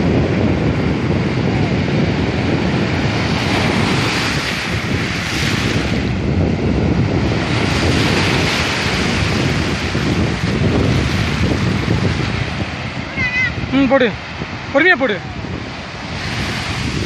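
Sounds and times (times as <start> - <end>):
sea surf washing and foaming: 0.0 - 17.0
wind buffeting microphone: 0.0 - 17.0.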